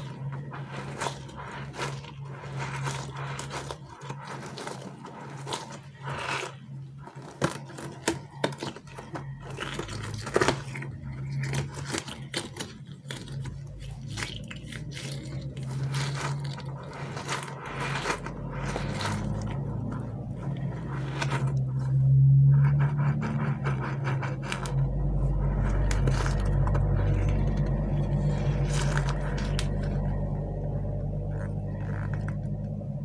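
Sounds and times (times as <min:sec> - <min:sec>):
squishy toys crackling and scraping: 0:00.0 - 0:33.0
steady low hum: 0:00.0 - 0:33.0.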